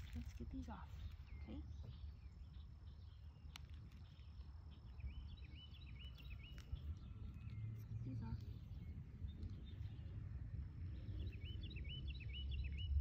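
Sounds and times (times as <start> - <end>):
bird chirping: 0.0 - 13.0
faint insect drone: 0.0 - 13.0
low rumble: 0.0 - 13.0.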